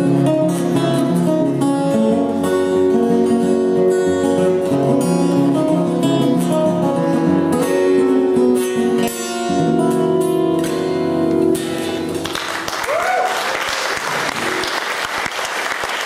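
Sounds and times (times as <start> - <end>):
acoustic guitars playing: 0.0 - 12.8, 14.0 - 14.9.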